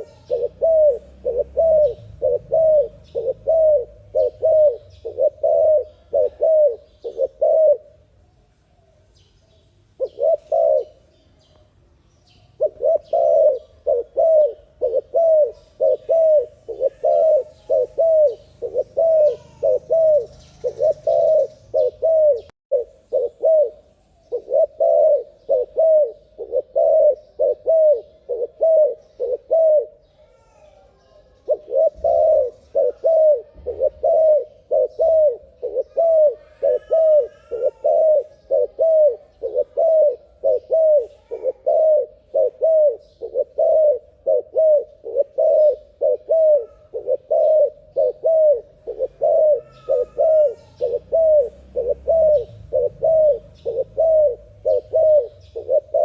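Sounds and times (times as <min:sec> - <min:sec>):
dove cooing rapidly: 0:00.0 - 0:08.1, 0:10.0 - 0:11.1, 0:12.6 - 0:56.0.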